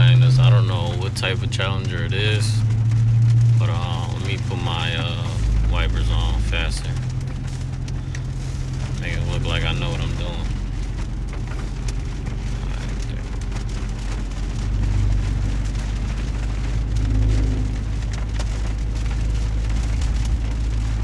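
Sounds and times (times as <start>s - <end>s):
engine and road drone: 0.0s - 21.0s
heavy rain on a car: 0.0s - 21.0s.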